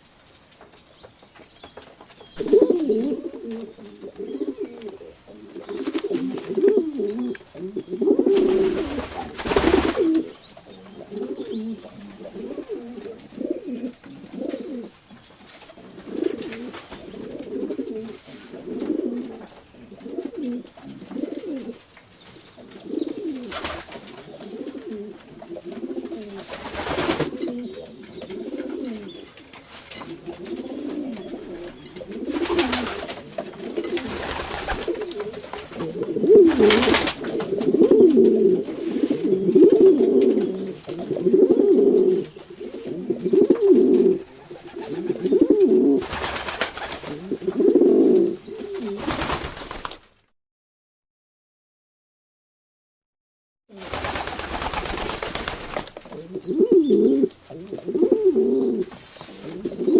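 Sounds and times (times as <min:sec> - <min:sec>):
pigeons cooing: 0:02.4 - 0:15.0, 0:15.7 - 0:21.8, 0:22.5 - 0:49.4, 0:56.0 - 0:59.9.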